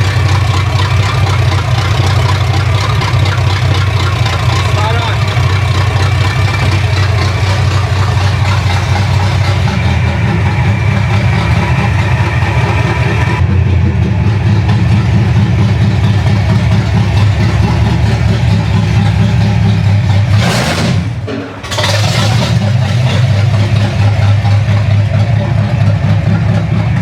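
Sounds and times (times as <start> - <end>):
car engine idling loudly: 0.0 - 27.0.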